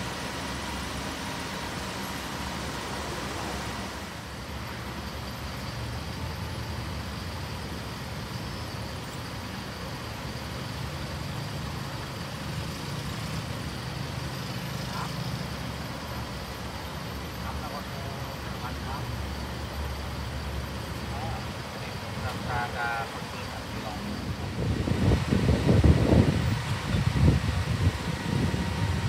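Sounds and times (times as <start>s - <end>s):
low mechanical hum: 0.0s - 29.0s
traffic noise: 0.0s - 29.0s.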